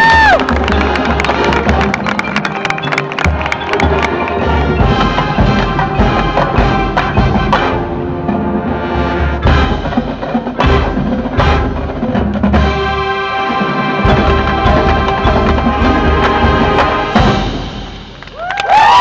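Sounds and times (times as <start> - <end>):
marching band playing: 0.0 - 18.4.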